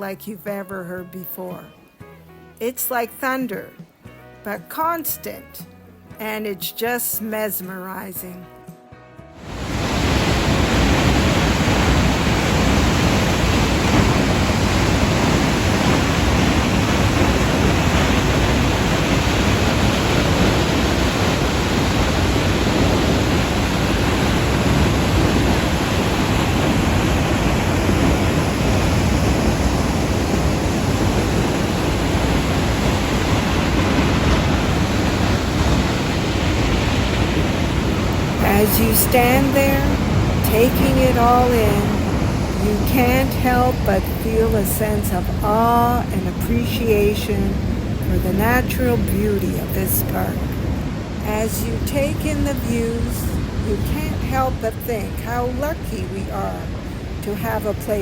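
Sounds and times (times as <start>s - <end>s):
waterfall roaring: 9.4s - 58.0s.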